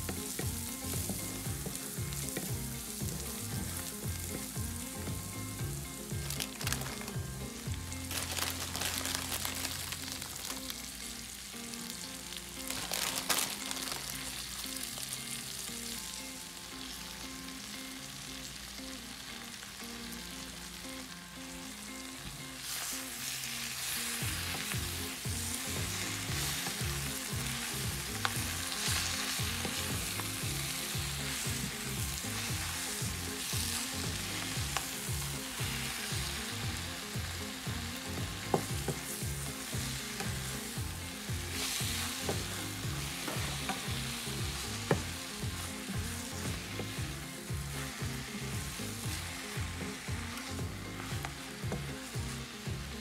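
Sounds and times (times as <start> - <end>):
spinach sizzling in a frying pan: 0.0 - 53.0.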